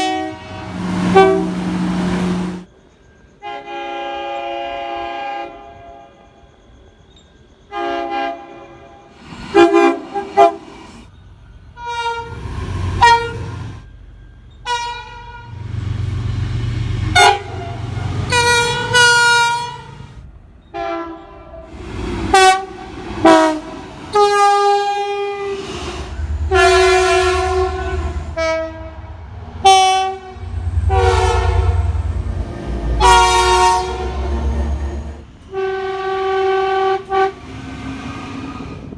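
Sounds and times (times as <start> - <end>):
locomotive air horn blasts: 0.0 - 2.7, 3.4 - 6.2, 7.7 - 11.1, 11.8 - 13.8, 14.6 - 15.8, 17.1 - 38.4
train rumbling by: 0.0 - 38.9.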